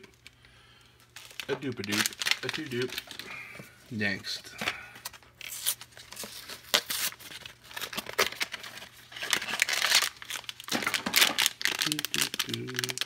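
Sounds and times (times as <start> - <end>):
foil crinkling and tearing: 1.1 - 3.4, 4.7 - 13.0.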